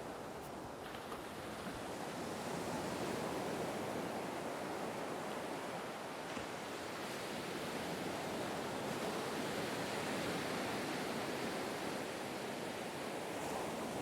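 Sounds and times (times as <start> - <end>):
ocean surf washing on beach: 0.0 - 14.0.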